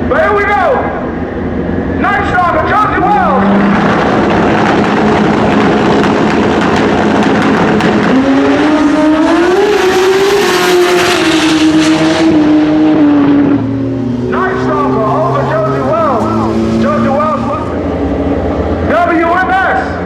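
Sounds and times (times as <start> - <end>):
motorcycle engines revving hard: 2.7 - 18.9.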